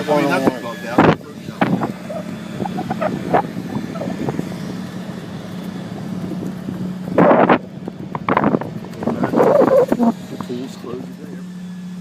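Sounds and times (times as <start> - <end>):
wind buffeting microphone: 0.0 - 10.9
low engine hum: 0.0 - 12.0.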